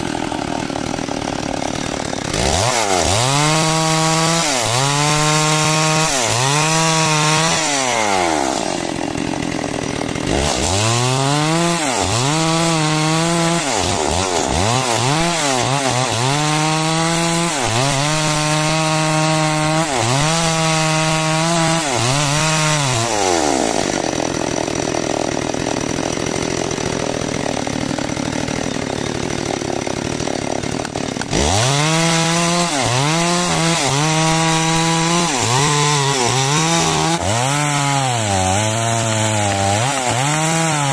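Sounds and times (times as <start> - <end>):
chainsaw sawing timber: 0.0 - 40.9.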